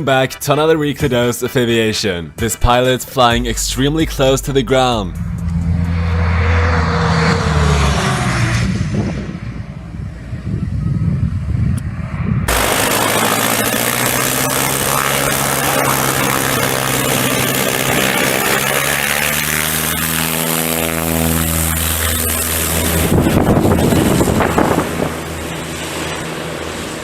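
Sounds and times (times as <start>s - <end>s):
aircraft engine drone: 3.0s - 27.0s.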